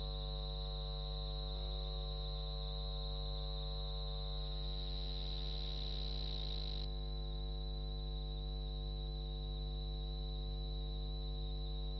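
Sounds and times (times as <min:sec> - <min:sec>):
electrical mains hum: 0:00.0 - 0:11.9.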